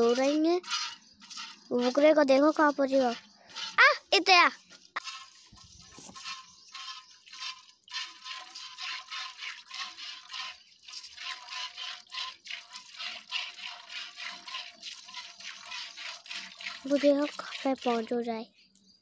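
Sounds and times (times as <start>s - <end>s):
bucket ringing faintly: 0.0s - 4.0s, 5.0s - 18.1s
milk squirting into metal bucket: 0.0s - 4.1s, 4.9s - 18.3s.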